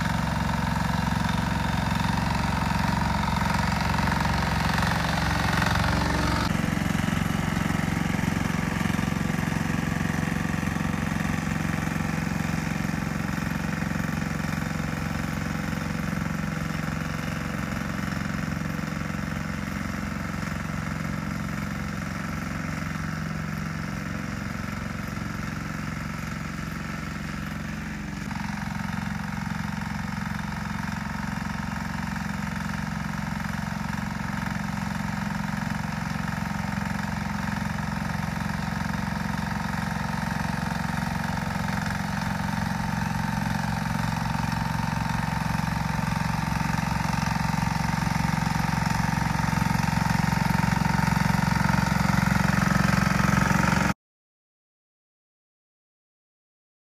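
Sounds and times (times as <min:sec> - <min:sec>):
rotary tiller working soil: 0:00.0 - 0:54.0
walk-behind tractor engine running: 0:00.0 - 0:54.0.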